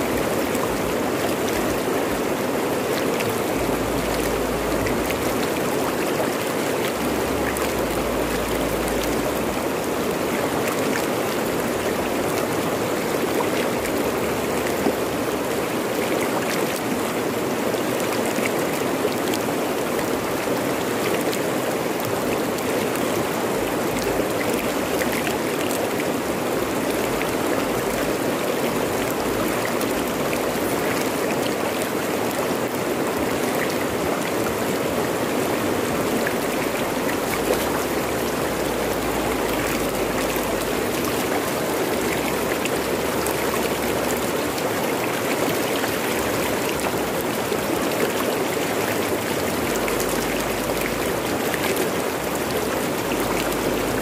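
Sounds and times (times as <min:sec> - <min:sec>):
river rushing over rocks: 0:00.0 - 0:54.0
small water splashes: 0:00.0 - 0:54.0.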